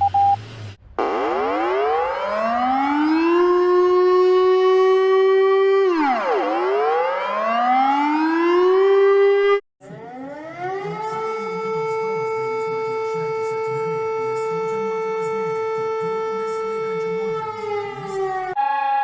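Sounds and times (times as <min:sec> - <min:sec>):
warning siren: 0:01.0 - 0:19.0.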